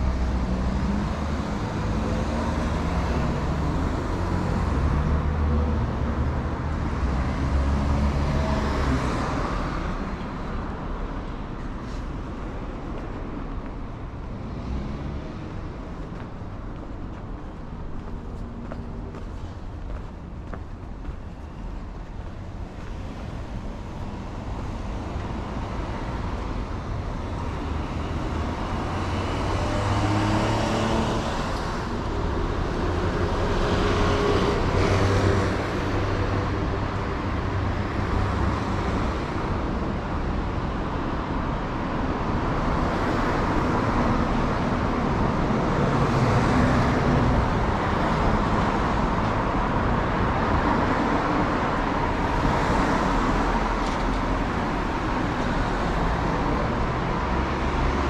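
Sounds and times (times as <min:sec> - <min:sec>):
cars passing on street: 0:00.0 - 0:58.0.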